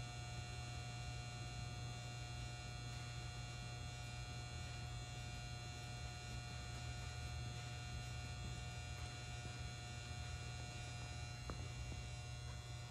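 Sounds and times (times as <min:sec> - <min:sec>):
low electrical hum: 0:00.0 - 0:12.9.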